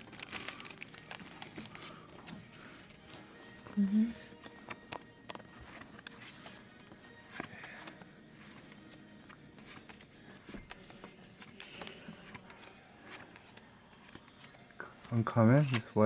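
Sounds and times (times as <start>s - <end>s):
cards rustling and clicking: 0.0s - 16.0s.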